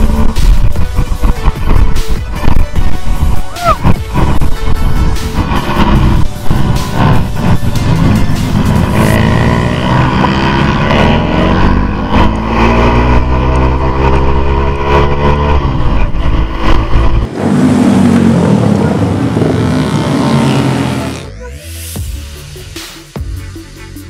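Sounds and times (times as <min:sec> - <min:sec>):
loud rushing noise: 0:00.0 - 0:21.4
vehicle engine accelerating: 0:00.0 - 0:21.8.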